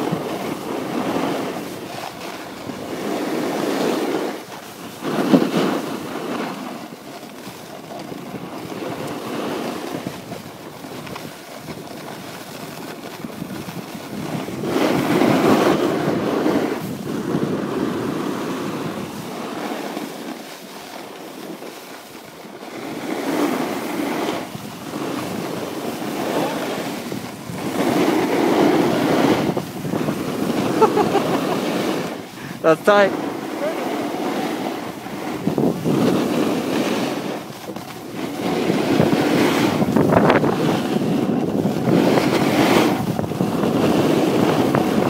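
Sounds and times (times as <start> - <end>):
wind rushing over microphone: 0.0 - 20.5, 22.3 - 45.0
snowboard edges scraping snow: 0.0 - 45.0.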